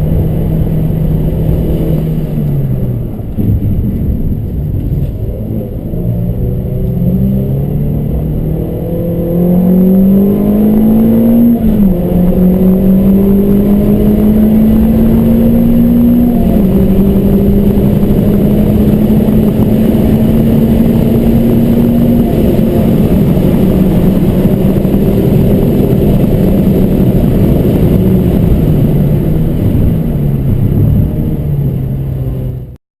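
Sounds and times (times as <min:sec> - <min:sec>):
car engine accelerating: 0:00.0 - 0:32.8.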